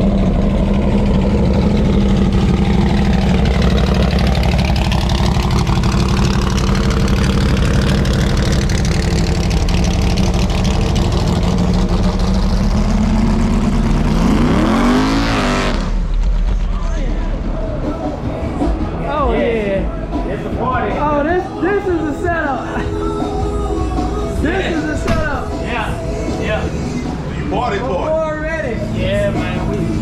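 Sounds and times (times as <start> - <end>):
car engine rumbling and revving: 0.0 - 19.0, 23.9 - 30.0.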